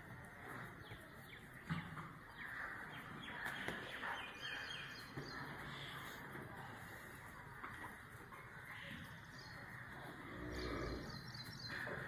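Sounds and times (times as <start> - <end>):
faint steady background noise: 0.0 - 12.0
small birds chirping: 0.0 - 12.0.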